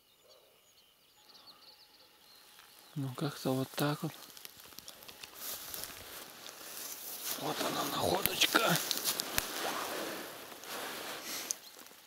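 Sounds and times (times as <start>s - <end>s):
dry grass and leaves rustling: 1.7s - 12.0s.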